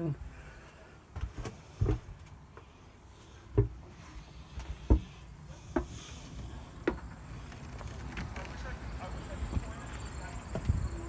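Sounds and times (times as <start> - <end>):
footsteps on wooden steps: 1.1 - 11.0.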